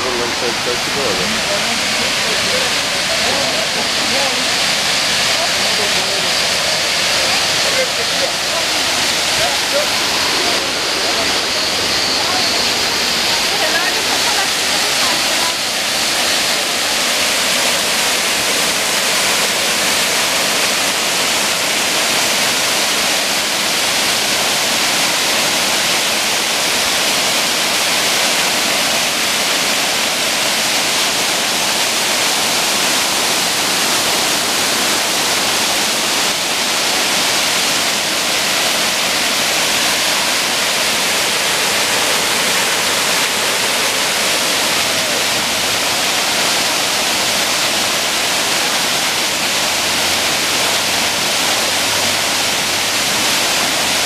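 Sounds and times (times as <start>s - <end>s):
waterfall crashing: 0.0s - 54.0s.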